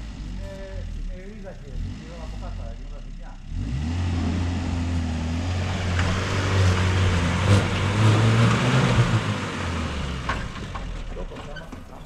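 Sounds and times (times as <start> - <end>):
car engine pulling off-road: 0.0 - 12.0.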